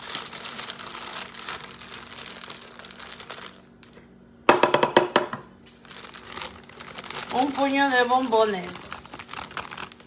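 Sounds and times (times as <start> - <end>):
plastic bag crinkling: 0.0 - 4.0, 5.6 - 10.0.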